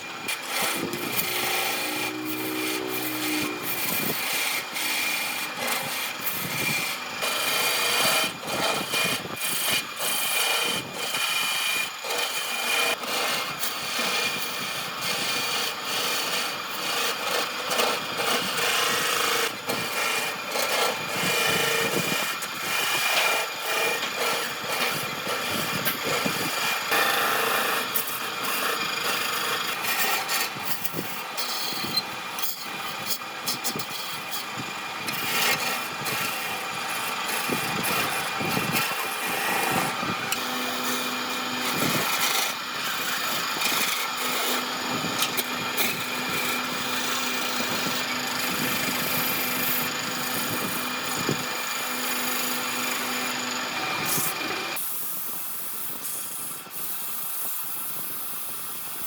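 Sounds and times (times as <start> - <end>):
power tool scraping wood: 0.0 - 57.2.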